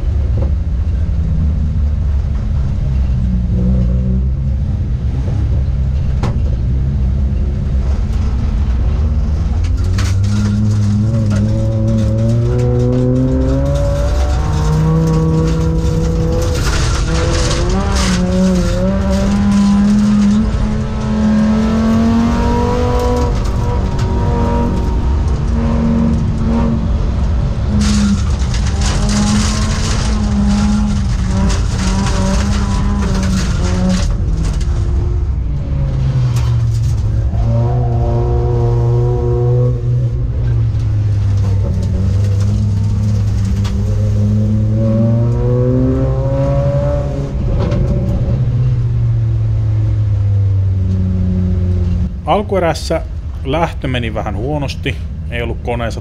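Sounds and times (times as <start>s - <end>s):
racing car engine: 0.0s - 56.0s.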